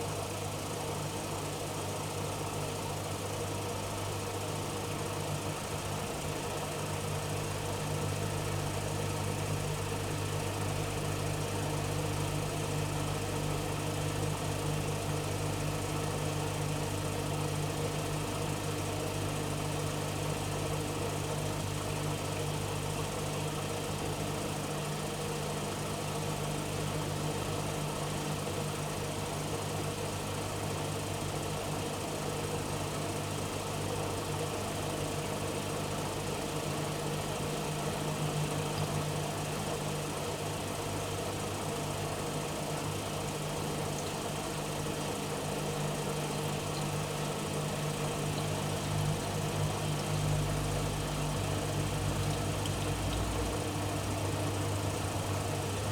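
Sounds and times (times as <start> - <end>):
washing machine humming: 0.0 - 55.9.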